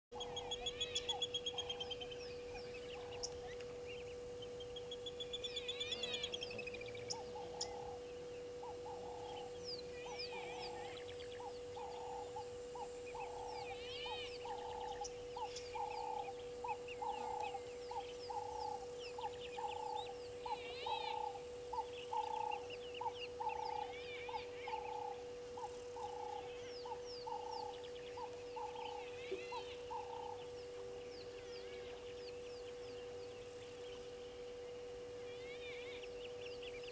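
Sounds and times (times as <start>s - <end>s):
bird chirps and trills: 0.1s - 36.9s
faint steady hum: 0.1s - 36.9s.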